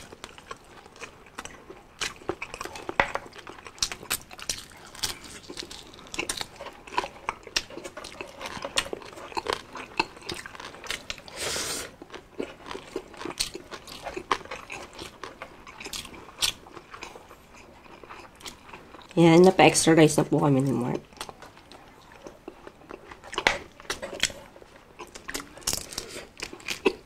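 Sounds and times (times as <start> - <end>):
crunching fried food: 0.0 - 19.6, 21.0 - 27.0.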